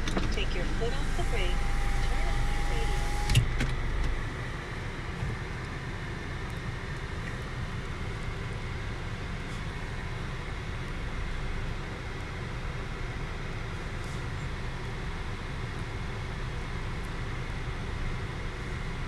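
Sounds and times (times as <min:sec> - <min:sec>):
car wash machinery humming: 0:00.0 - 0:19.0.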